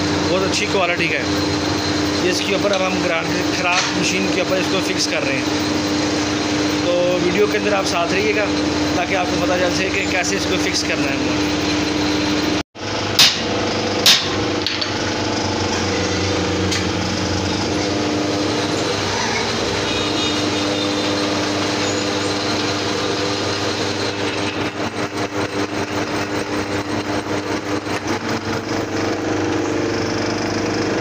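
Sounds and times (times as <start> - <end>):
metal lathe running: 0.0 - 31.0.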